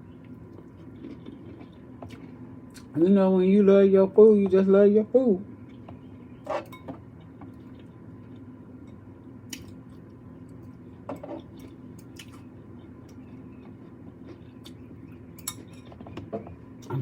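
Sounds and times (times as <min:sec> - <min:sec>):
person chewing food: 0:00.0 - 0:03.0, 0:05.6 - 0:17.0
faint steady hum: 0:00.0 - 0:17.0.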